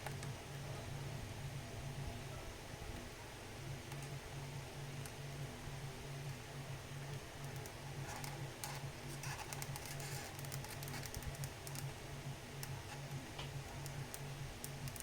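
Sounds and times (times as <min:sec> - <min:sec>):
low pulsing hum: 0:00.0 - 0:15.0.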